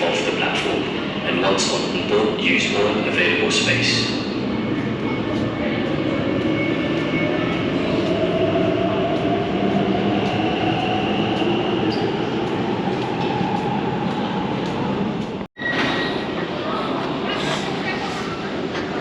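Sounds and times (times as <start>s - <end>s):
train rumble and rail noise: 0.0s - 19.0s.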